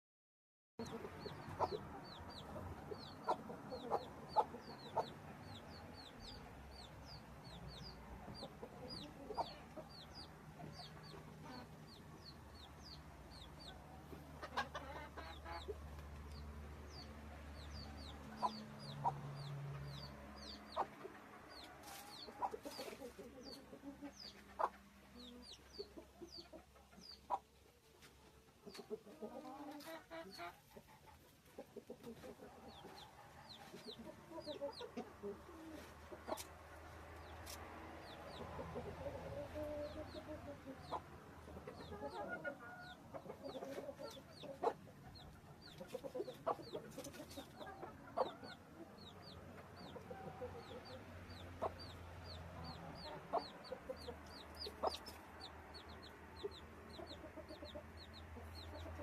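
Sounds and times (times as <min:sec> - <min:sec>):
chickens clucking: 0:00.8 - 0:59.0.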